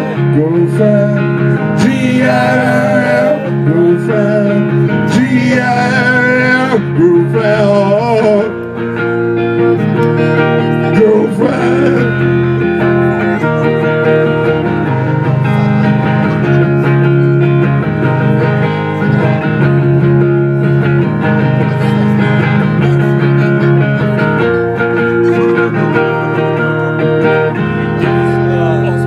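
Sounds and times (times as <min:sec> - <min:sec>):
electric guitar chords: 0:00.0 - 0:29.0
live rock band playing: 0:00.0 - 0:29.0.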